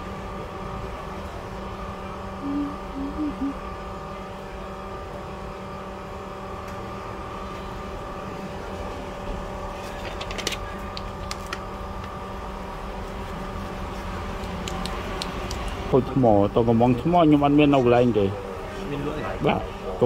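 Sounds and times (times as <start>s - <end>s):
machine humming: 0.0s - 9.8s, 10.6s - 20.0s.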